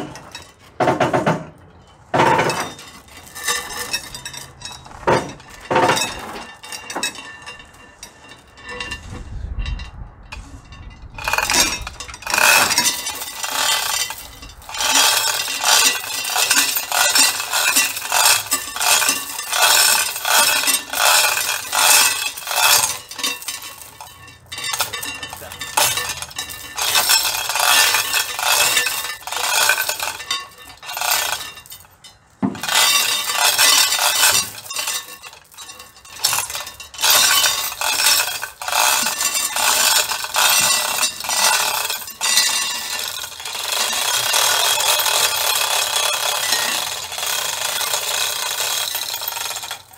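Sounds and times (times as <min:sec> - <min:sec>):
steel chain rattling and clinking: 0:00.0 - 0:49.9.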